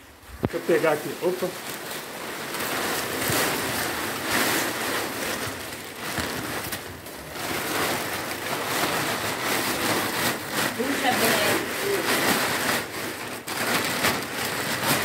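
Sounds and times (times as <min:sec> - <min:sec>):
plastic sheeting rustling: 0:00.0 - 0:15.0.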